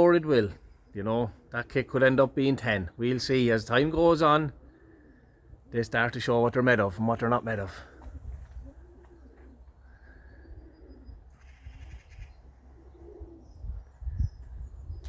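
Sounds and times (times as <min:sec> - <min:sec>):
pigeons cooing: 0:00.0 - 0:06.9, 0:07.6 - 0:15.0.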